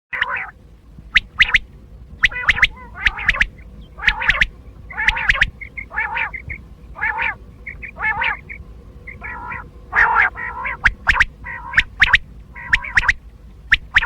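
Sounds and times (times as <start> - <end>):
quail calling: 0.1 - 14.0.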